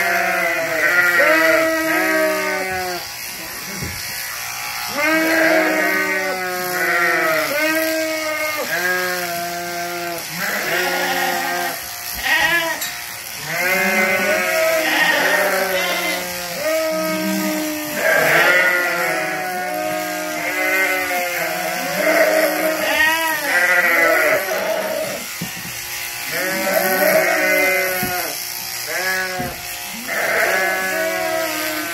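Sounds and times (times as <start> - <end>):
sheep bleating: 0.0 - 25.4, 26.0 - 31.9.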